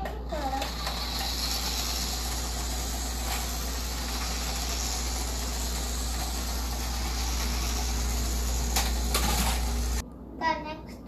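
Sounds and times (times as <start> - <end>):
toy car mechanical hum: 0.0 - 10.0.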